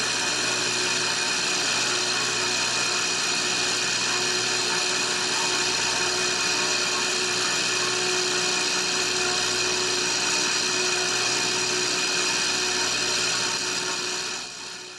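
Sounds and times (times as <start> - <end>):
electric water pump whirring: 0.0 - 14.9.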